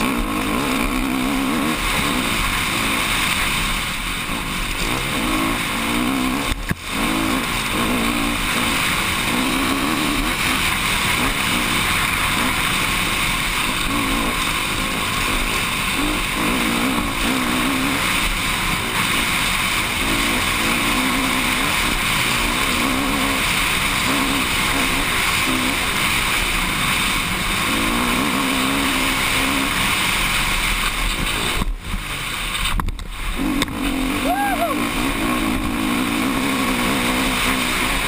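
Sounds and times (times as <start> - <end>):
dirt bike engine revving: 0.0 - 38.0
wind rush on helmet camera: 0.0 - 38.0.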